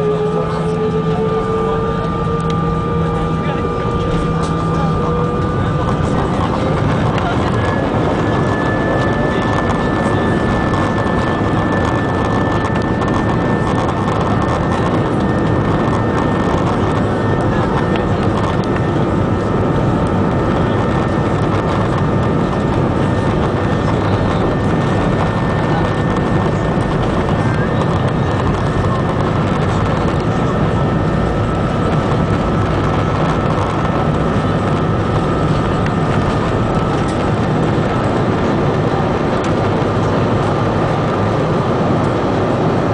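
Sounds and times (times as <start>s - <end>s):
faint steady whines: 0.0s - 42.9s
jet engines roaring: 0.0s - 42.9s.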